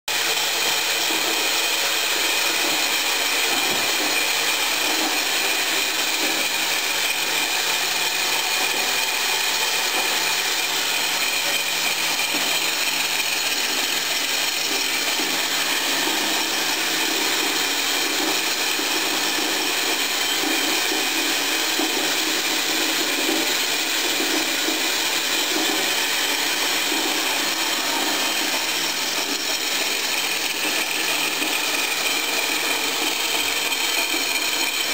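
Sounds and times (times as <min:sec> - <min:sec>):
band saw cutting metal: 0:00.1 - 0:34.9.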